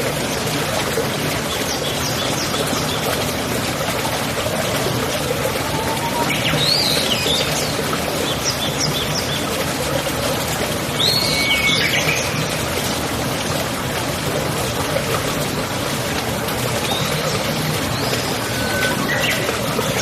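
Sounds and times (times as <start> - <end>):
running water: 0.0 - 20.0.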